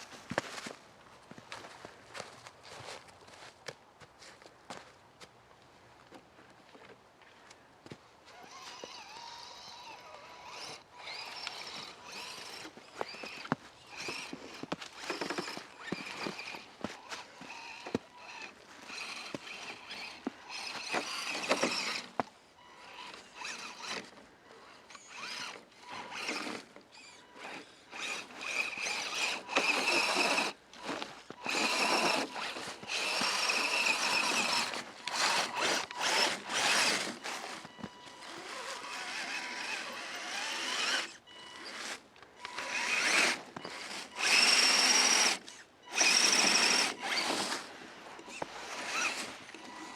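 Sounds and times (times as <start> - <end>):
toy car electric motor whining: 8.3 - 49.9.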